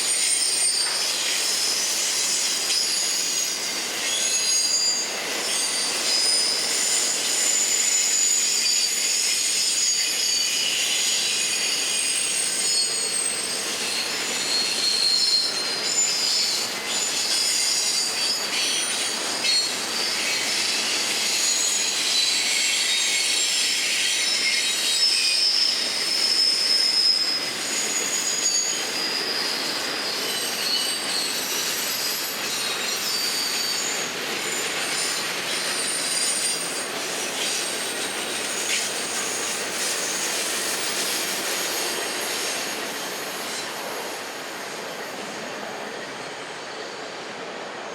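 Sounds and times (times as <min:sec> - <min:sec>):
train wheels squealing: 0:00.0 - 0:47.9.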